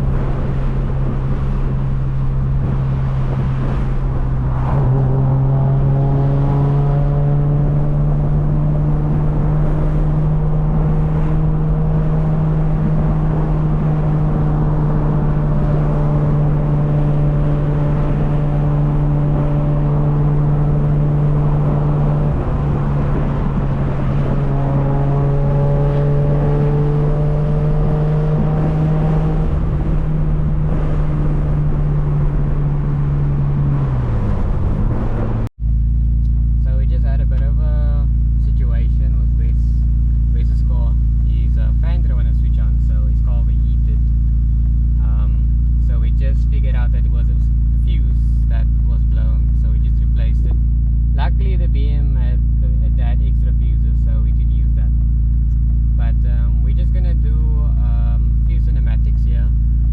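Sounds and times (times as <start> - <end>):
car engine accelerating: 0.0 - 59.9
steady low drone: 0.0 - 59.9.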